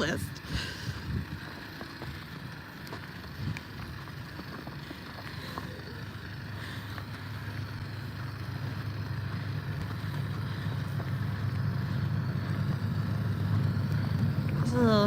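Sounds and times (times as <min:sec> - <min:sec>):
vehicle engine rumble approaching: 0:00.0 - 0:15.0.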